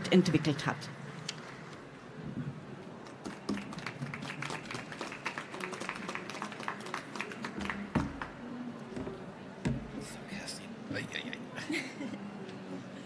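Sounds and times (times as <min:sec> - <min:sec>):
hubbub of large hall: 0:00.0 - 0:13.0.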